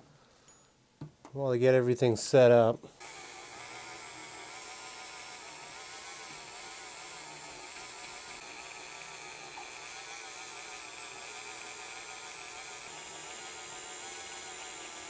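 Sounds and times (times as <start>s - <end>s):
rotary tool whirring: 2.9s - 15.0s.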